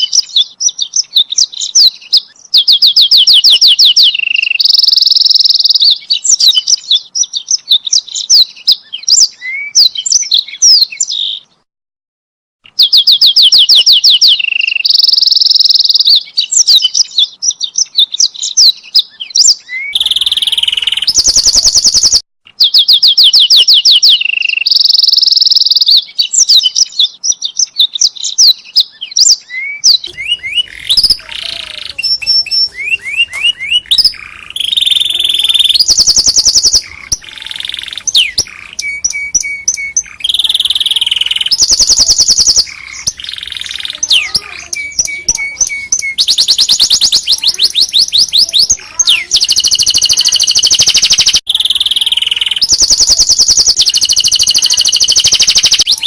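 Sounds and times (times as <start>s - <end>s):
canary singing trills: 0.0s - 11.6s, 12.6s - 56.0s.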